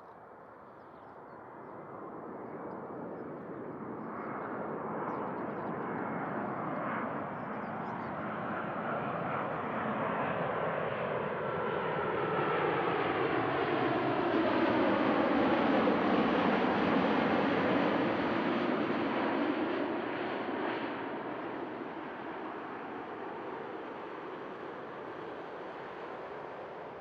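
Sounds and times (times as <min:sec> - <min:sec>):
jet airliner noise: 0:01.4 - 0:27.0.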